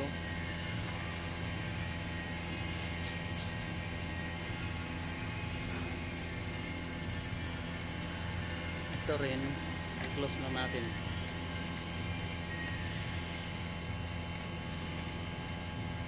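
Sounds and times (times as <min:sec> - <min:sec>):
air conditioner compressor humming: 0:00.0 - 0:16.0.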